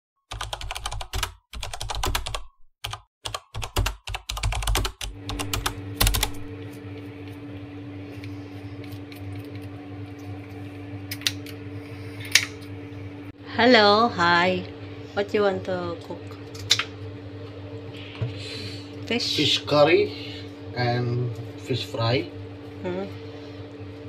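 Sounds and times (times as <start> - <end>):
electrical hum: 3.8 - 24.0.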